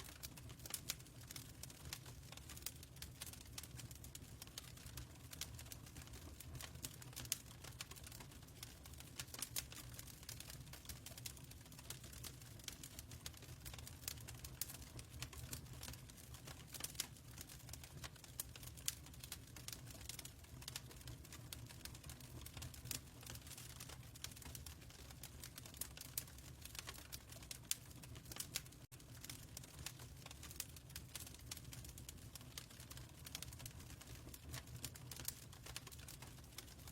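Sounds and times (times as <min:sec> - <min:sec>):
low rumble of fire: 0:00.0 - 0:36.9
wood fire snaps and pops: 0:00.0 - 0:36.9.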